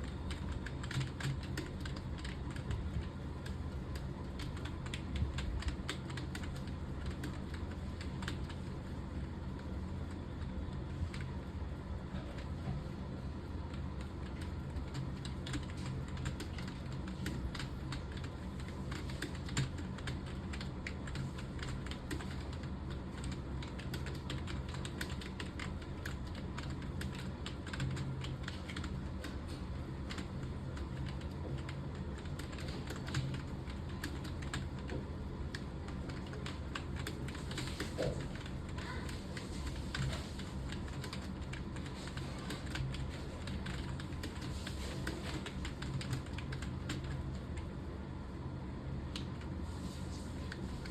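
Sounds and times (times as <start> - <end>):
fast keyboard typing: 0.0 - 47.8.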